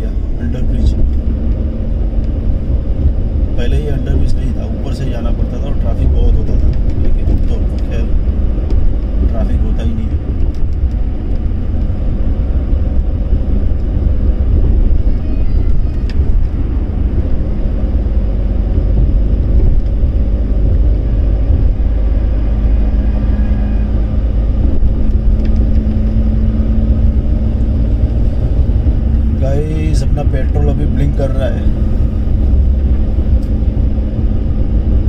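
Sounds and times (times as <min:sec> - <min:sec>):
car road and engine noise: 0:00.0 - 0:35.0.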